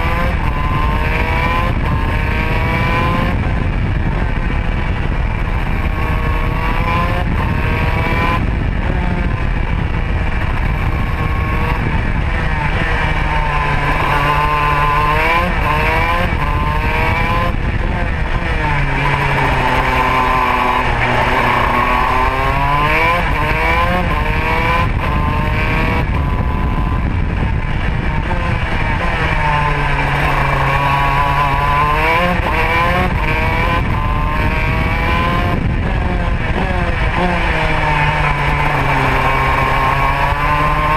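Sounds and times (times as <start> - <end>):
kart engine at racing speed: 0.0 - 40.9
rumble and rush of noise: 0.0 - 40.9.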